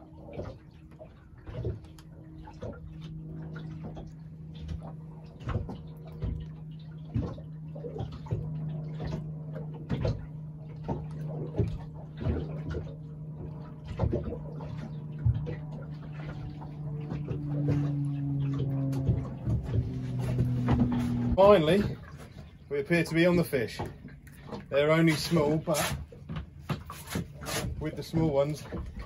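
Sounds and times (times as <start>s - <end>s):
boat engine hum: 0.0s - 29.0s
waves slapping against boat hull: 0.0s - 29.0s.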